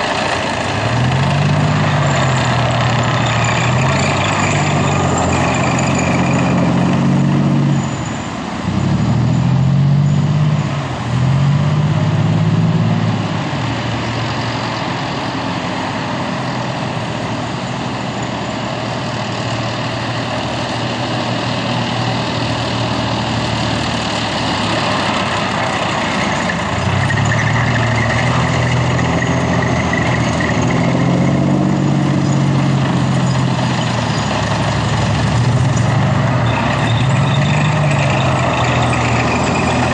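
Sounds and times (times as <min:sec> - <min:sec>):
heavy diesel engines of vehicles passing: 0:00.0 - 0:39.9.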